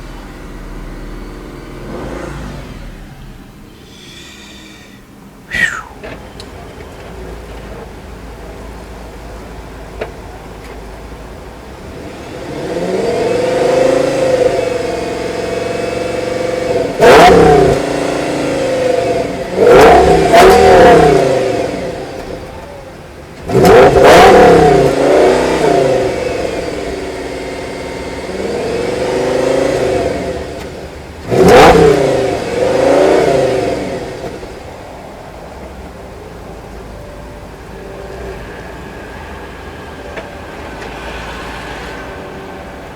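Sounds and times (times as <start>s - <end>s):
car engine revving: 0.0s - 4.9s, 11.3s - 36.8s, 37.5s - 42.9s.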